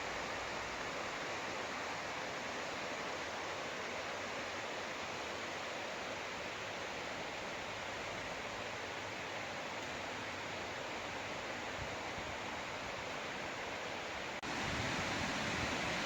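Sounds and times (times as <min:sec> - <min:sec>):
stream flowing over rocks: 0:00.2 - 0:16.0.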